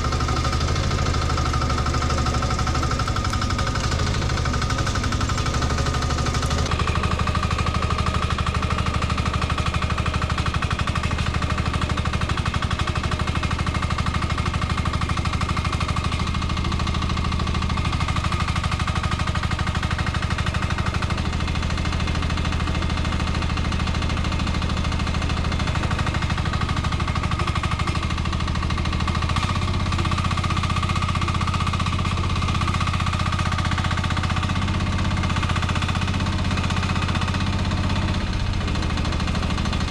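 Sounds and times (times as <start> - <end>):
excavator diesel engine chugging: 0.0 - 39.9.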